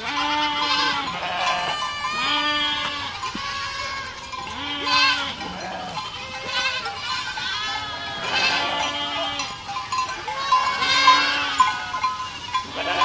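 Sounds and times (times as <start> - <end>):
goats bleating: 0.0 - 13.0.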